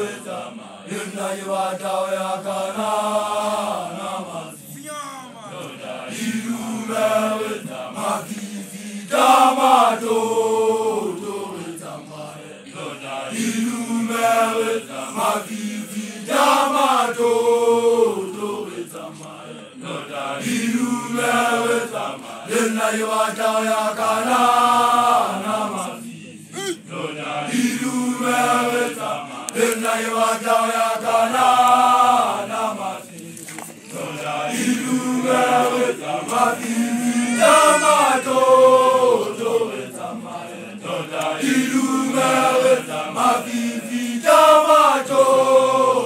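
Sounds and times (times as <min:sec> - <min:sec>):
group of voices chanting: 0:00.0 - 0:46.0.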